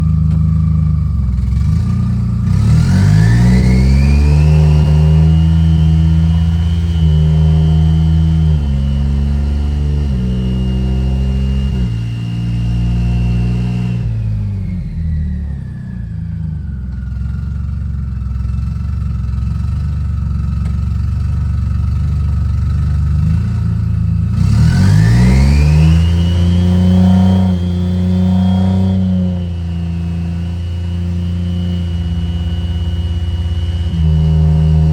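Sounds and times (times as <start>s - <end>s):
car engine accelerating hard: 0.0s - 34.9s
turbo whine: 0.0s - 34.9s.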